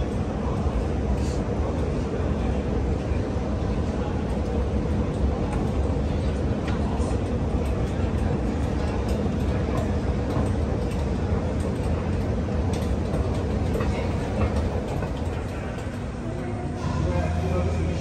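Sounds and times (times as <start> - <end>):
echoing crowd chatter: 0.0 - 18.0.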